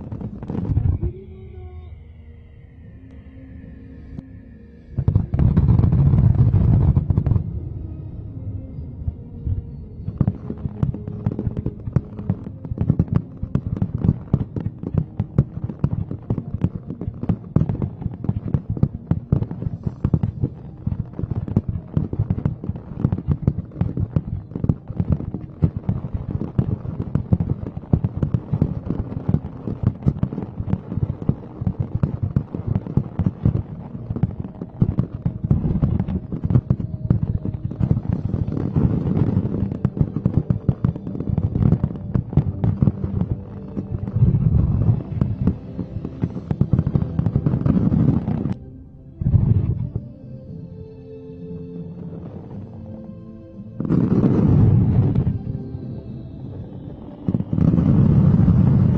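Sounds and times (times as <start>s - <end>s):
fireworks bangs and crackles: 0.0s - 1.4s, 5.0s - 7.6s, 9.5s - 48.6s, 53.8s - 55.6s, 56.4s - 58.9s.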